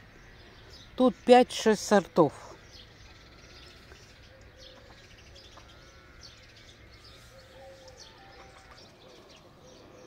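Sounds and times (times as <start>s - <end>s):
faint wavering hum: 0.0s - 10.0s
small birds chirping: 0.0s - 10.0s.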